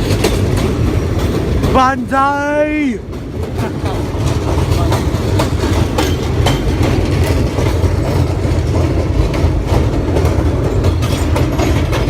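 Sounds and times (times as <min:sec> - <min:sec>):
subway train rumble: 0:00.0 - 0:12.0
wheels clicking over rail joints: 0:00.0 - 0:12.0.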